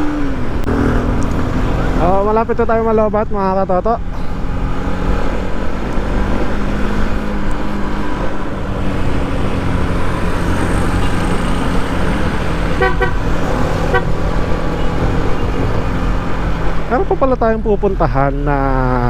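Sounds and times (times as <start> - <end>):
motorcycle engine and road noise: 0.0 - 19.0.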